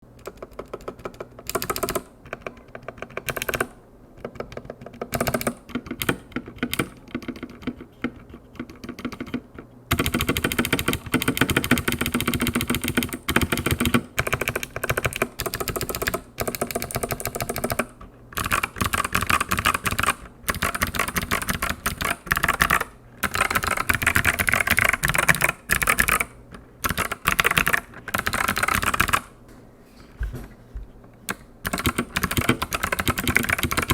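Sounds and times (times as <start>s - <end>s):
mechanical keyboard typing: 0.2s - 29.3s, 31.3s - 33.9s.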